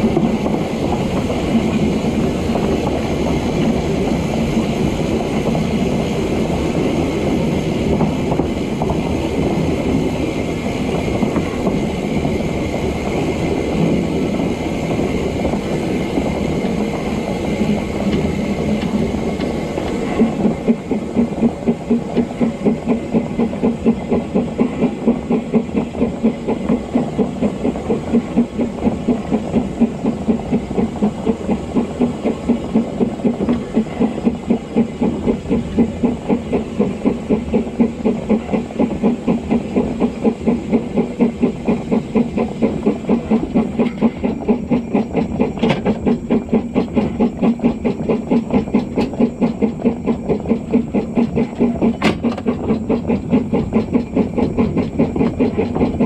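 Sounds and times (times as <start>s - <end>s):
steam hissing: 0.0s - 56.0s
steam locomotive exhaust beats: 0.0s - 56.0s
train running noise: 0.0s - 56.0s.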